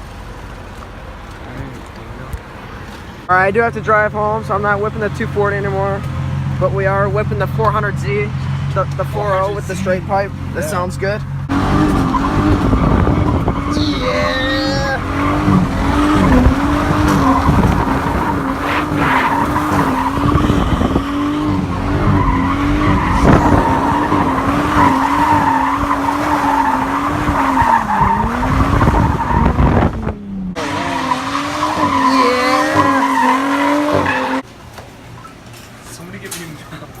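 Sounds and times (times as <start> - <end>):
tires squealing: 3.9 - 34.5
car engine revving high: 4.6 - 34.4.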